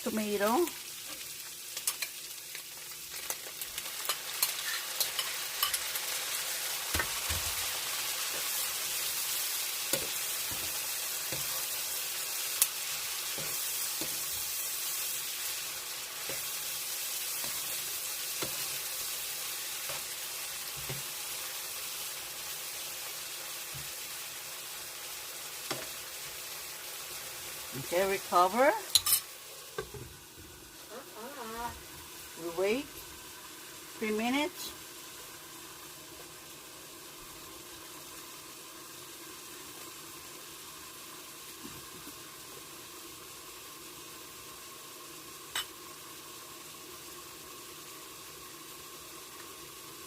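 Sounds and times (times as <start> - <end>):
food sizzling in a hot pan: 0.0 - 50.0.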